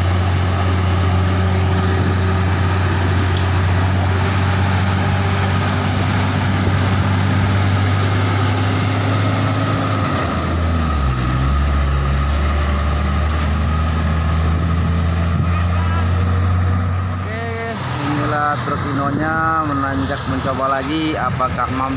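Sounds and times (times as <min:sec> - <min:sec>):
diesel truck engine humming: 0:00.0 - 0:21.9.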